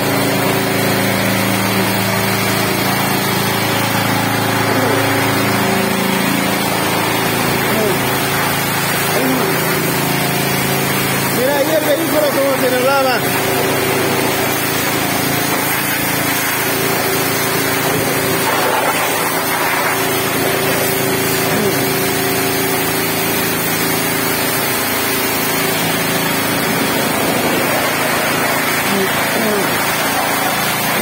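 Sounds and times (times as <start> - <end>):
pressure washer spraying on metal: 0.0 - 31.0
steady motor hum: 0.0 - 31.0.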